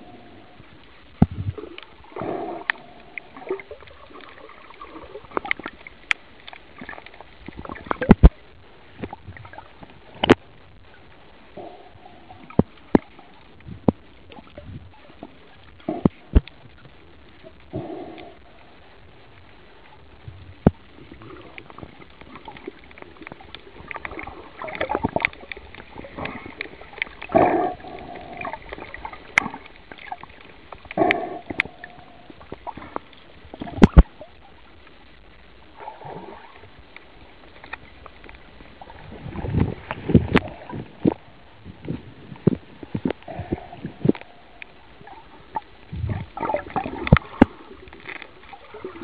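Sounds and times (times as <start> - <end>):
underwater gurgling and sloshing: 0.0 - 49.0.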